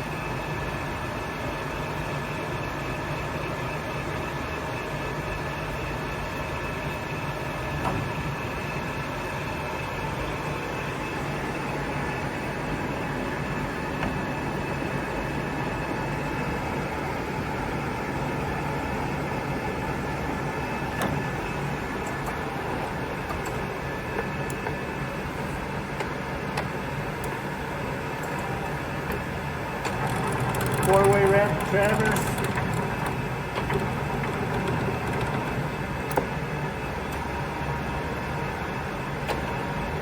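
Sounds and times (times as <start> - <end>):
faint gear whine: 0.0 - 40.0
lathe running with mechanical hum: 0.0 - 40.0.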